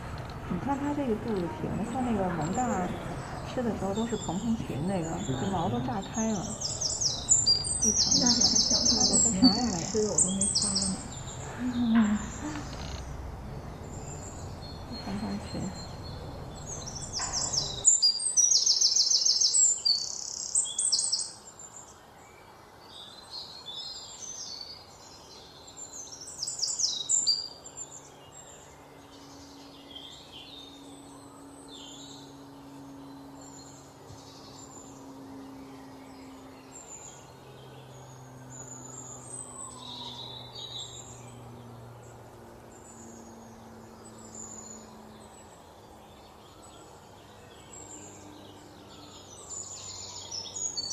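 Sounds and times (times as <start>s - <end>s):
faint low hum: 0.0s - 50.9s
small birds chirping: 0.0s - 50.9s
steady outdoor hiss: 0.0s - 50.9s.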